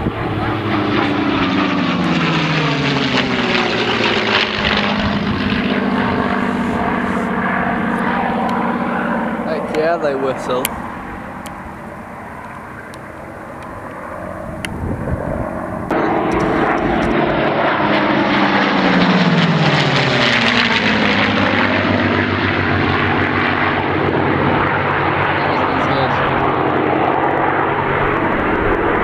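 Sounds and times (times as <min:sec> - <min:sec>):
propeller plane engines flying by: 0:00.0 - 0:29.0.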